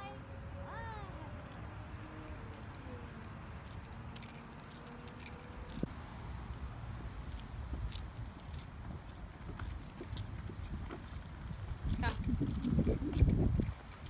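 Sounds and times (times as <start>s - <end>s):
dog collar tags jingling: 1.5s - 5.9s, 7.0s - 14.0s.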